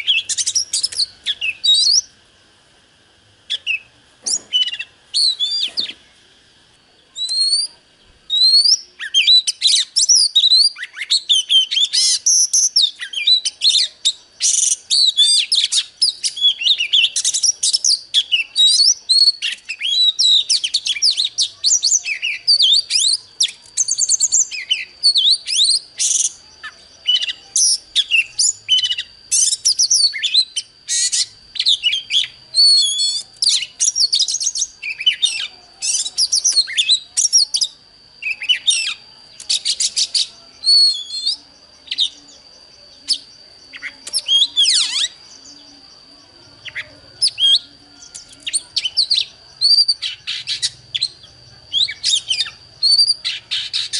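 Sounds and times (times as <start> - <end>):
bird singing whistles and trills: 0.0 - 2.2, 3.4 - 53.9.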